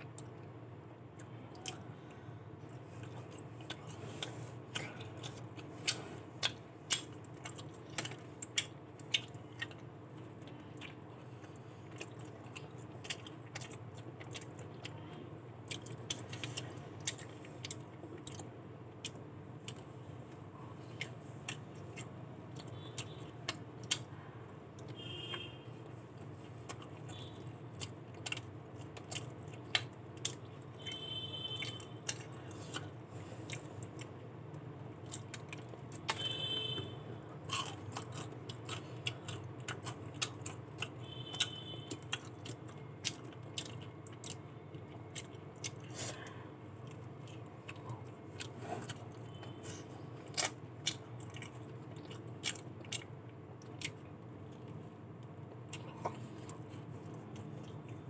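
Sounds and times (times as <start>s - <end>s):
chewing crispy fried chicken: 0.0s - 58.0s.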